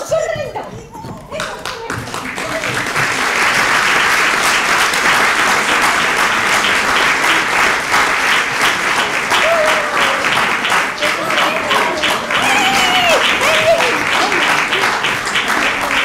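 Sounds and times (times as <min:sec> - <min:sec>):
audience applauding: 0:01.4 - 0:16.0.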